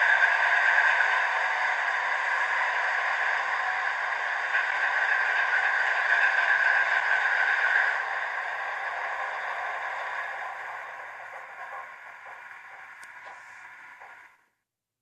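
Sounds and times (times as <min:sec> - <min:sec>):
diesel engine drone from small speaker: 0:00.0 - 0:14.4.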